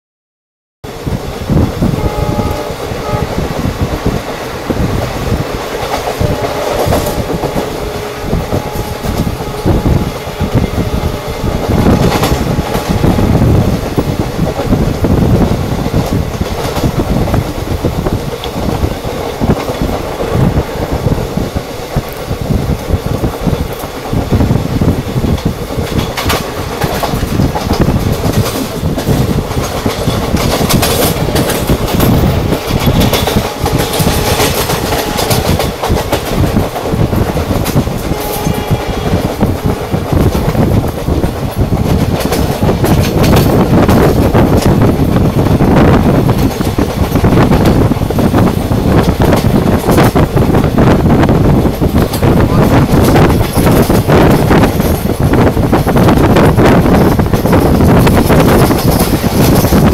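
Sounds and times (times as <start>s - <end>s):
train rumbling: 0.8s - 59.9s
wheels clattering over rail joints: 4.0s - 59.9s.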